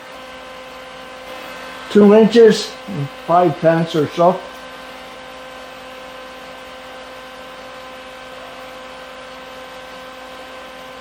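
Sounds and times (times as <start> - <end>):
machine hum with light hiss: 0.0 - 11.0.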